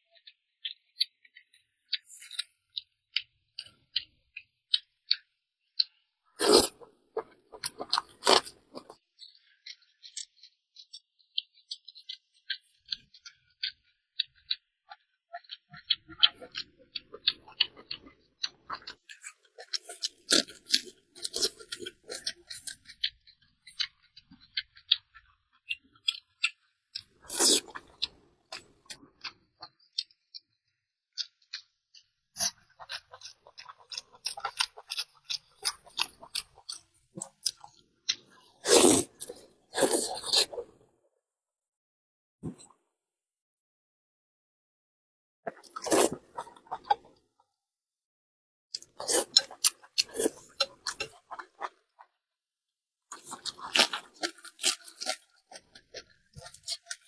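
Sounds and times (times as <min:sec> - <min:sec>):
person chewing with wet smacking: 0:00.1 - 0:30.5, 0:31.2 - 0:40.7, 0:45.5 - 0:47.2, 0:48.8 - 0:52.1, 0:53.1 - 0:57.0.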